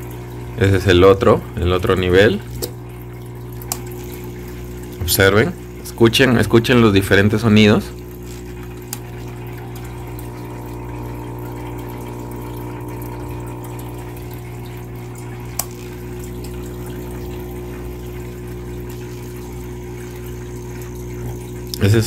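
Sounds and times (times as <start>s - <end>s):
aquarium air pump humming: 0.0s - 22.0s
pump setting click: 0.0s - 22.0s.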